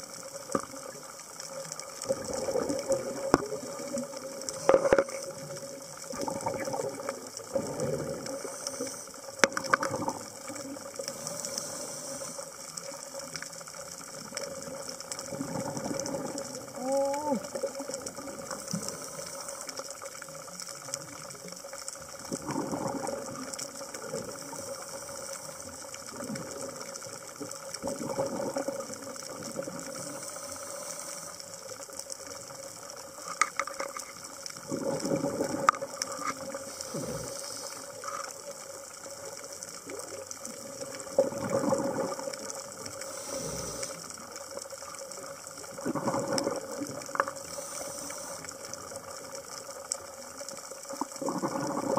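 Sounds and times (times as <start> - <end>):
fine crackling clicks: 0.0 - 16.8, 17.4 - 51.9
underwater exhaled bubbles: 0.0 - 51.9.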